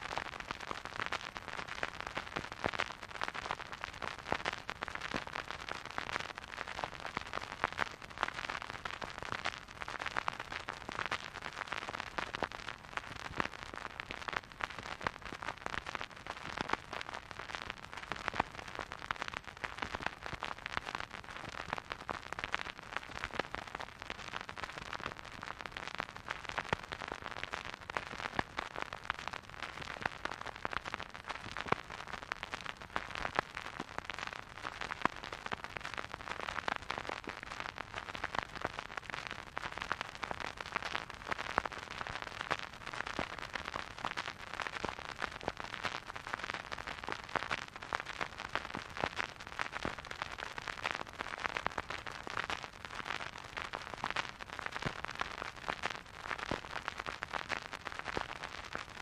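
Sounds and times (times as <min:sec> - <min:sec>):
vinyl record crackle and hiss: 0:00.0 - 0:59.0.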